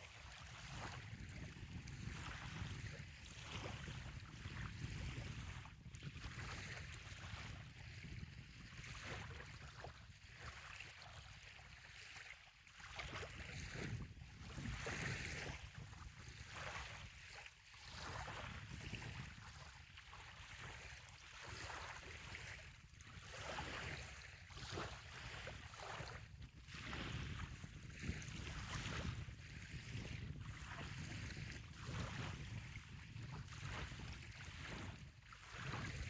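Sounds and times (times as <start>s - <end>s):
small waves lapping on shore: 0.0s - 36.0s.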